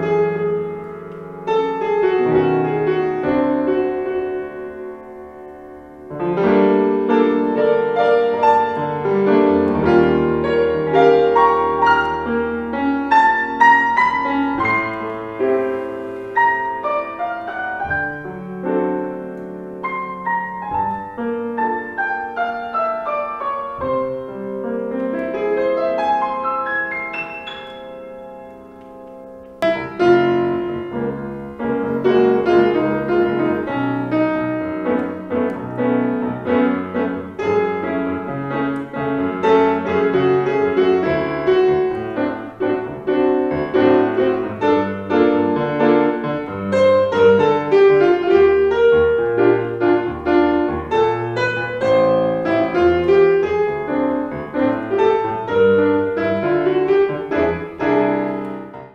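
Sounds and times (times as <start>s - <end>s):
solo grand piano: 0.0s - 58.9s.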